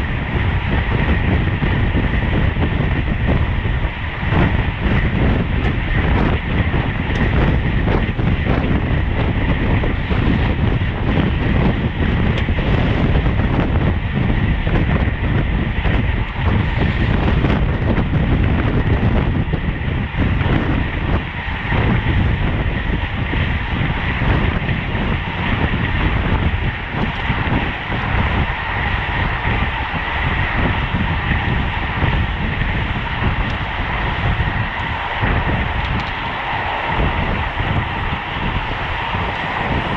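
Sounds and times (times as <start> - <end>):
rolling road noise: 0.0 - 39.9
wind rushing over microphone: 0.0 - 39.9.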